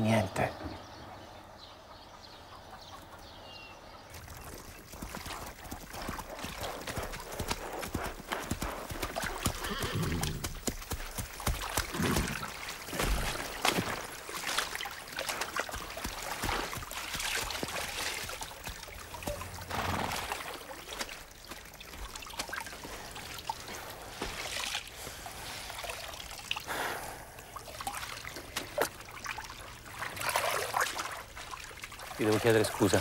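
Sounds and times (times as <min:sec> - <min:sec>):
water splashing and trickling: 0:03.0 - 0:33.0.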